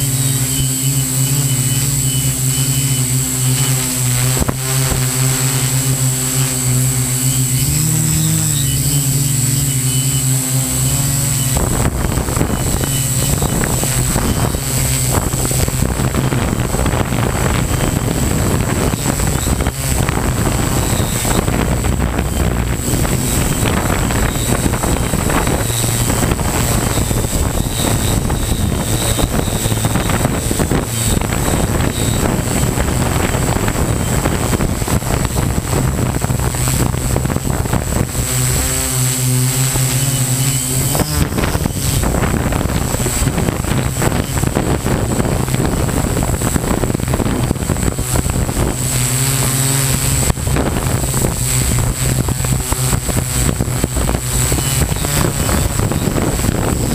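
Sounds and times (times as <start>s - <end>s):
drone propellers whirring: 0.0s - 56.9s.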